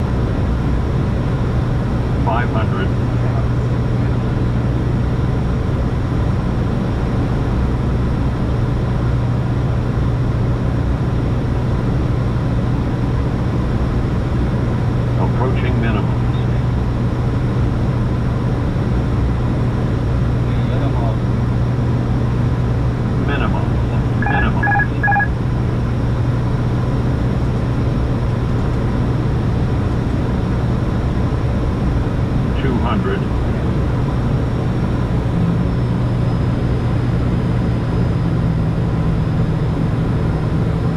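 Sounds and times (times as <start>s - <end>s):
aircraft engines: 0.0s - 40.9s
constant low hum: 0.0s - 40.9s.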